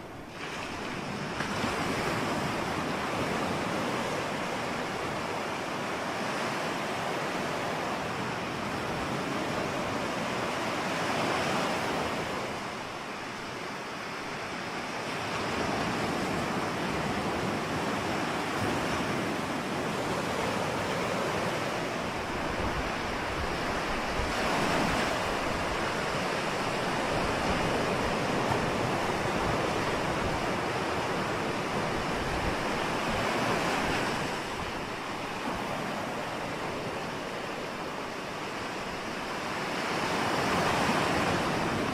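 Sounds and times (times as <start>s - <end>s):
ocean waves washing in: 0.0s - 41.9s.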